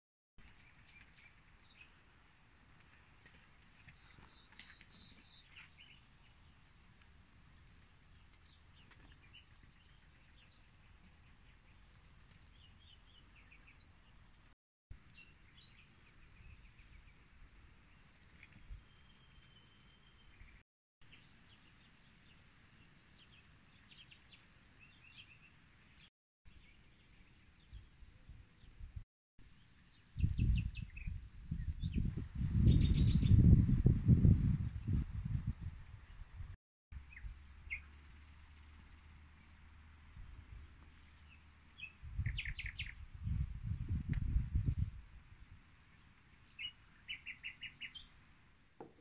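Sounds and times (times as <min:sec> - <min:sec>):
small birds chirping: 0:00.4 - 0:02.1, 0:02.8 - 0:06.6, 0:07.8 - 0:39.6, 0:40.2 - 0:44.9, 0:45.7 - 0:49.0
faint outdoor background: 0:00.4 - 0:49.0.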